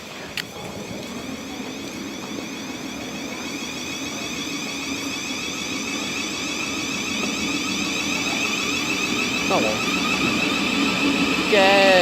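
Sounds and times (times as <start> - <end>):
train electrical hum with whine: 0.0 - 12.0.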